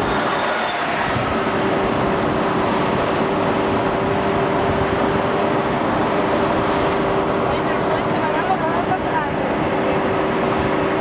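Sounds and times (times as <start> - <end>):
rushing wind: 0.0 - 11.0.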